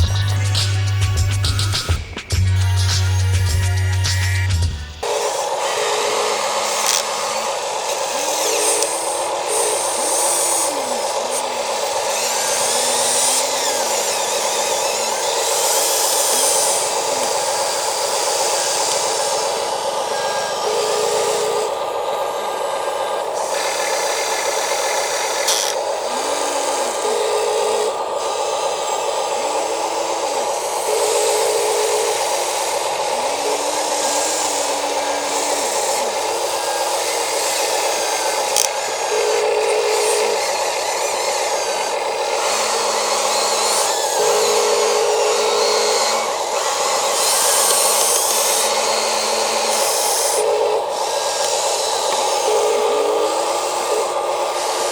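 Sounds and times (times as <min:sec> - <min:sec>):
electric toy motors whining: 0:00.0 - 0:54.9.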